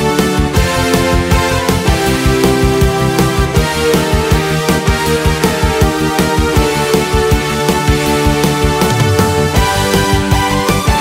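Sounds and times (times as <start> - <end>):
synth music with steady beat: 0.0 - 11.0.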